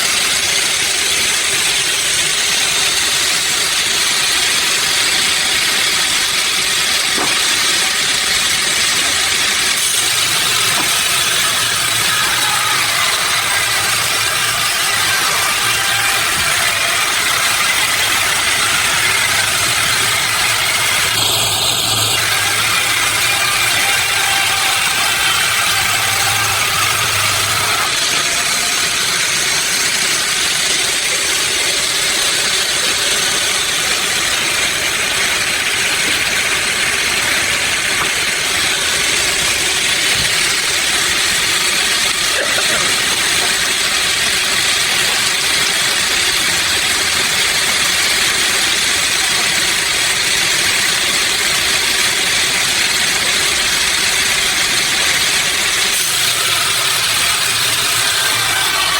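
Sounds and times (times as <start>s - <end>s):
sawmill machinery running: 0.0s - 58.9s.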